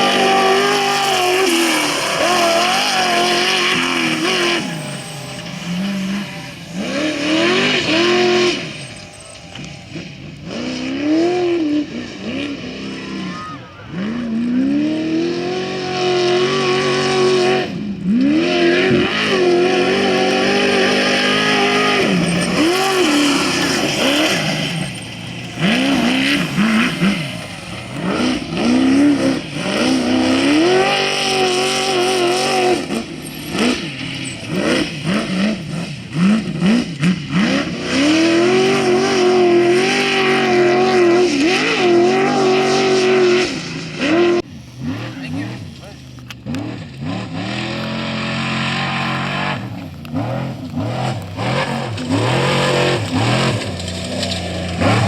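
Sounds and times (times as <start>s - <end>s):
race engine revving: 0.0s - 55.0s.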